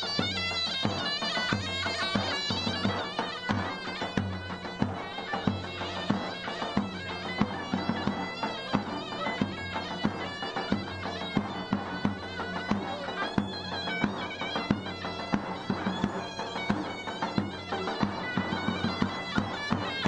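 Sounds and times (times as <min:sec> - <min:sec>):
drum beating: 0:00.0 - 0:20.0
reedy wind instrument melody: 0:00.0 - 0:20.0.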